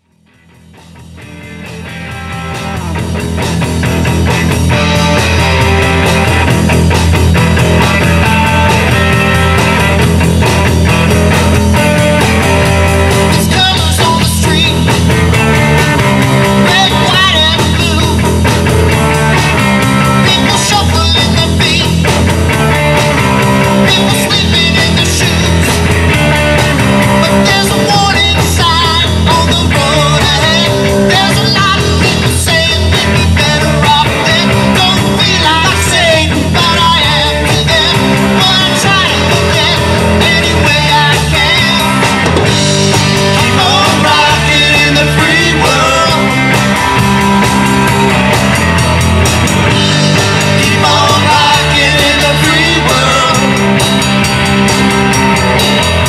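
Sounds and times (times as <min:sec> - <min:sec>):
bass guitar: 0:00.0 - 0:56.0
electric guitar: 0:00.0 - 0:56.0
drum kit: 0:00.1 - 0:56.0.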